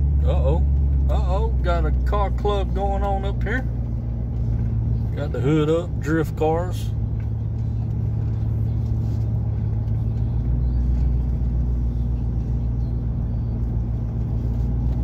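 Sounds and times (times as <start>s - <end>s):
truck exhaust low rumble: 0.0s - 15.0s.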